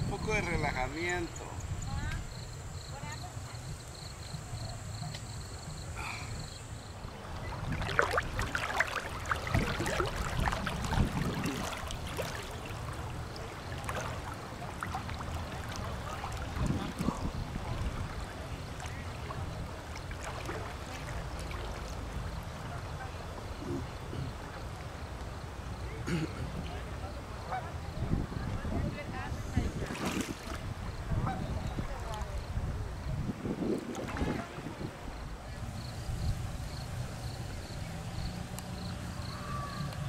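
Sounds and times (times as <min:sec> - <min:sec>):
wind rumbling on microphone: 0:00.0 - 0:24.4, 0:27.5 - 0:40.0
lake water splashing: 0:02.8 - 0:26.0, 0:26.7 - 0:40.0.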